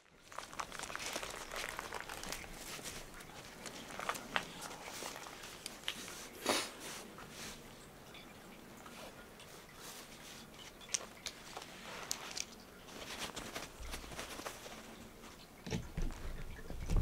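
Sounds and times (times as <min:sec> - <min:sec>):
cloth rustling: 0:00.0 - 0:17.0.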